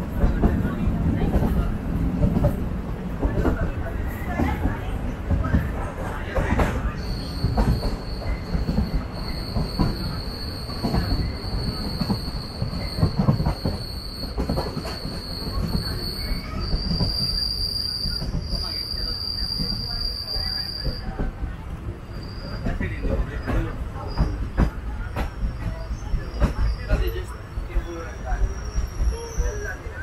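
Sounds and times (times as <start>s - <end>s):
train rumble: 0.0s - 30.0s
train wheels squealing on rails: 3.3s - 30.0s.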